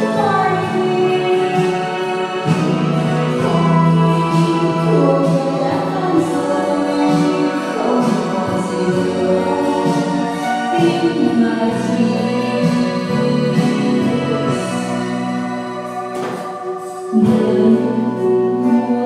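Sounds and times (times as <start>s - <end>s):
song with singing voices: 0.0s - 19.0s.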